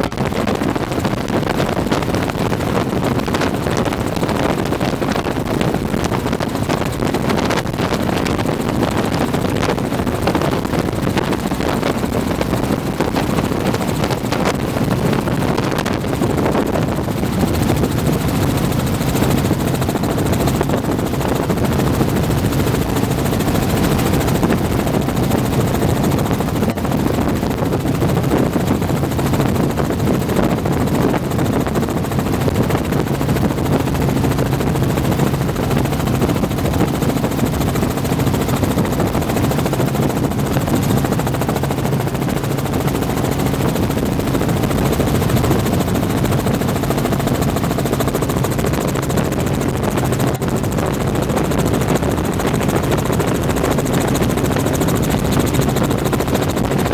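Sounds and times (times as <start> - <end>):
helicopter turbine and rotor drone: 0.0 - 56.9.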